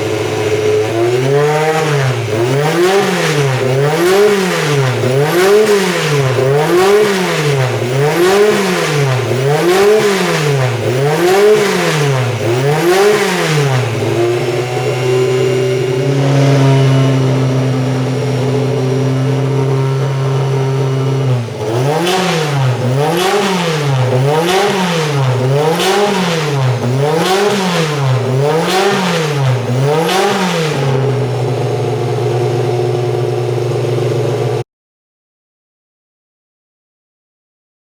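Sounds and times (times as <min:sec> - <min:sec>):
race car engine revving: 0:00.0 - 0:34.6.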